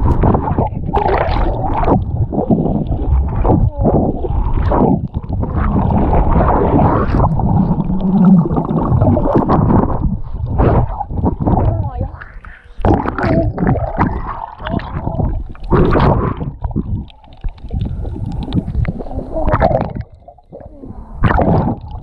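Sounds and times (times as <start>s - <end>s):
bubbling: 0.0s - 22.0s
underwater water sloshing: 0.0s - 22.0s.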